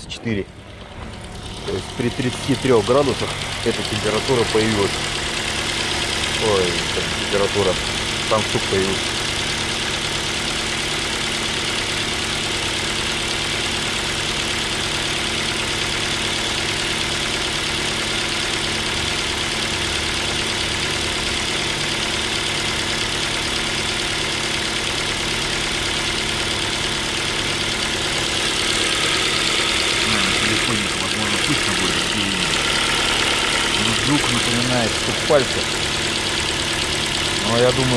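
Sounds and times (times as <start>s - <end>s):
car engine idling with knock: 0.0s - 37.9s.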